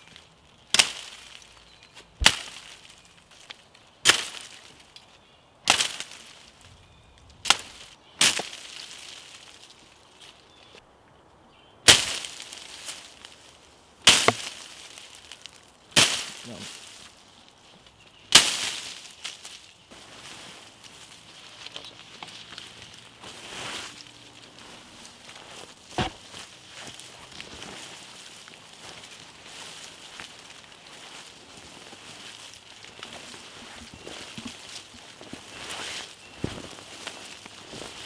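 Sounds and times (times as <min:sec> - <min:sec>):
twigs cracking in undergrowth: 0:00.0 - 0:10.8, 0:11.9 - 0:38.0.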